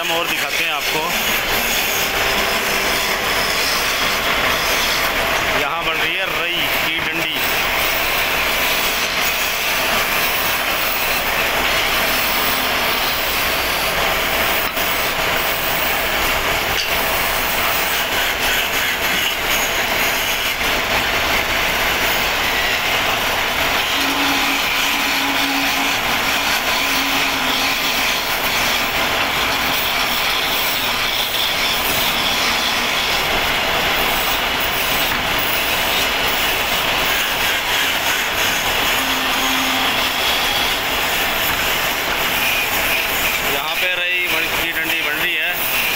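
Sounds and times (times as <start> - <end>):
chisel cutting spinning wood: 0.0 - 45.9
wood lathe running: 0.0 - 45.9.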